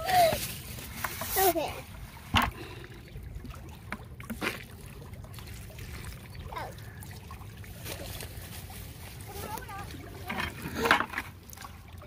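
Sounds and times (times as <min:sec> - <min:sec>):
fish splashing in a bucket: 0:01.9 - 0:12.0.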